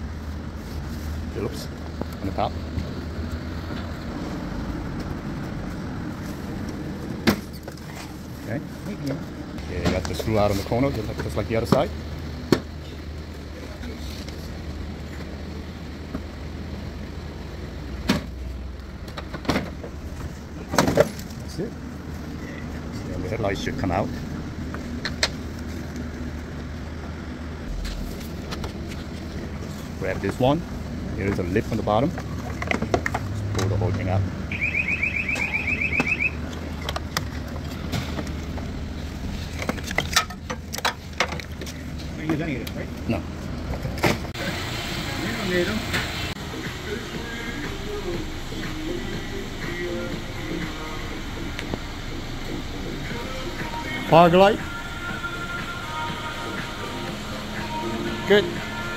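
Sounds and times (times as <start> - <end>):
steady low hum: 0.0 - 33.5, 36.4 - 58.9.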